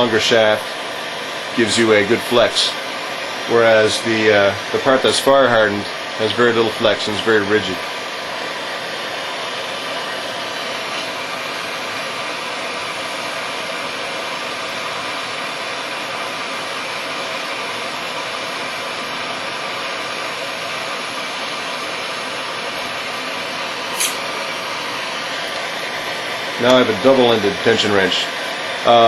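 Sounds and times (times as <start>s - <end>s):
gas torch flame hissing: 0.0s - 29.0s.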